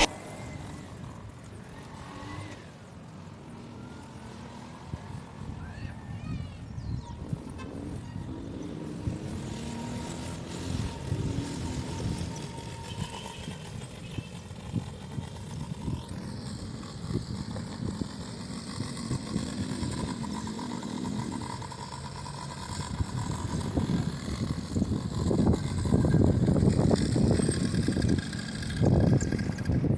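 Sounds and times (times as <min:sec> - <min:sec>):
off-road vehicle engine running: 0:00.0 - 0:05.8, 0:06.7 - 0:29.9.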